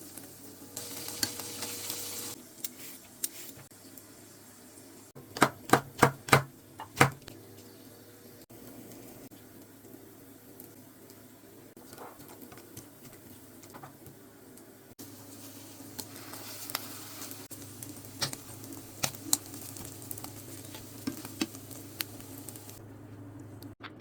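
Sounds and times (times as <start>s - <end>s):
food sizzling in a frying pan: 0.0s - 5.2s, 7.4s - 22.8s.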